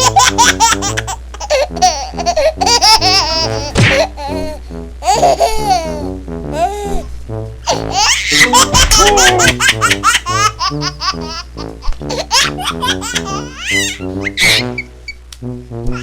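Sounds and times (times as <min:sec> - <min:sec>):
music with short choppy notes: 0:00.0 - 0:16.0.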